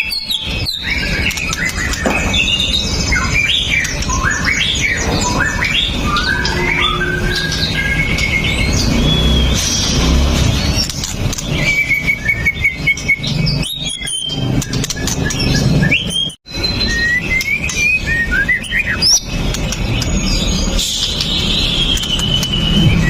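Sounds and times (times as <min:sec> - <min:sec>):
bird singing trills and whistles: 0:00.0 - 0:23.0.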